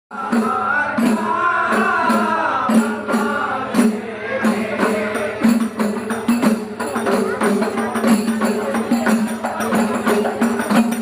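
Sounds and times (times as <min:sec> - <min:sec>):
men chanting in unison: 0:00.1 - 0:11.0
frame drums beating: 0:00.2 - 0:11.0.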